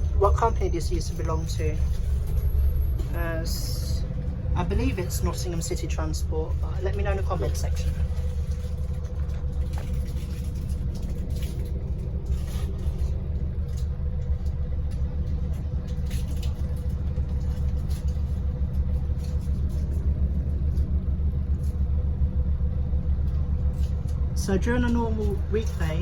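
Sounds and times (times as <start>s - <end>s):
bus engine and road rumble: 0.0s - 26.0s
bodywork rattles and clicks: 4.0s - 26.0s.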